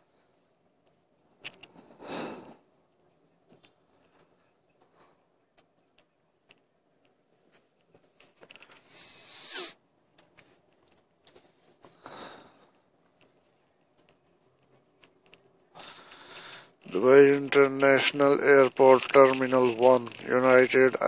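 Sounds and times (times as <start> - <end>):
small clicks and rustles: 0.5 - 1.9, 2.8 - 9.0, 10.0 - 21.0.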